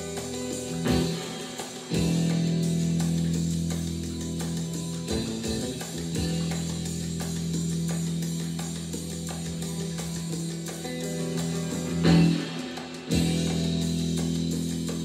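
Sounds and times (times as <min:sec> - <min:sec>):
guitar chords: 0:00.0 - 0:15.0.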